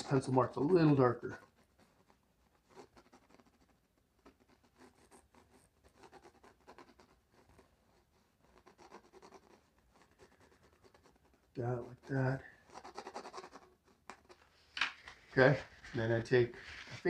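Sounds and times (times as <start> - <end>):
pencil scratching on canvas: 0.0 - 17.0.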